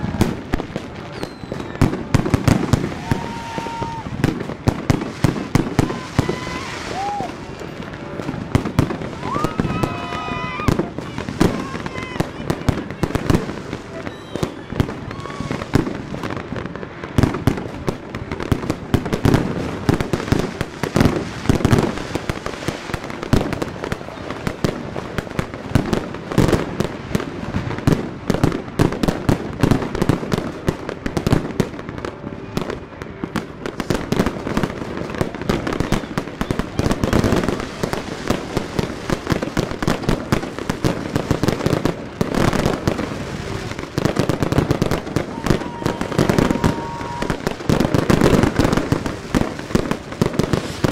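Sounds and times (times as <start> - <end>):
fireworks and firecrackers banging: 0.0 - 50.9.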